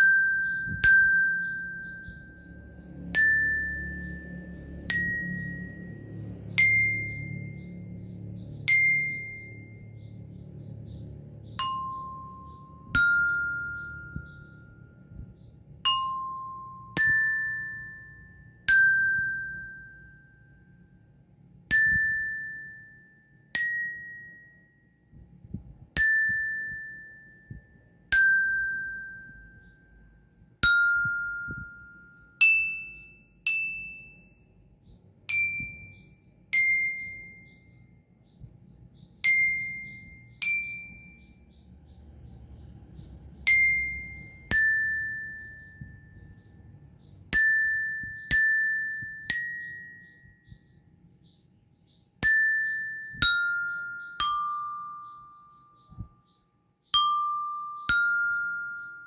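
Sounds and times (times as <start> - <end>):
bell lyre melody: 0.0 - 34.6, 35.2 - 38.0, 39.0 - 41.5, 43.2 - 59.0.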